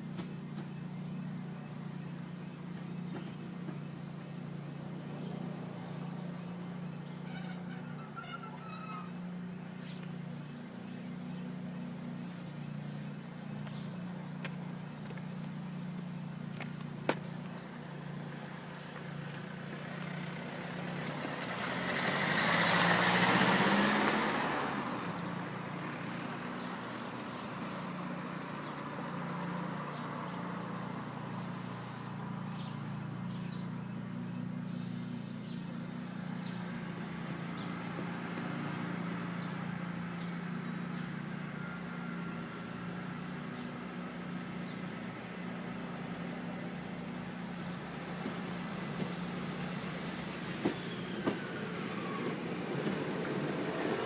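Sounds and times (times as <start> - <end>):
road vehicle passing: 0.0 - 54.0.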